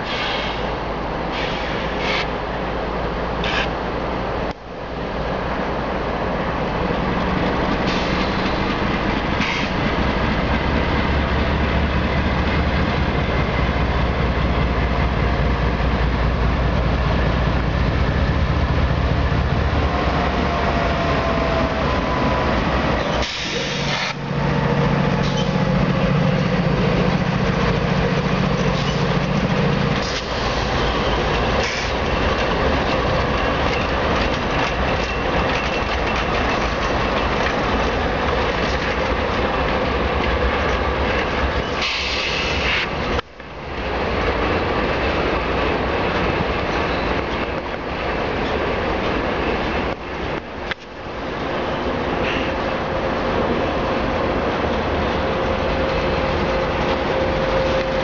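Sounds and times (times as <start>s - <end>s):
diesel locomotives passing: 0.0s - 58.0s.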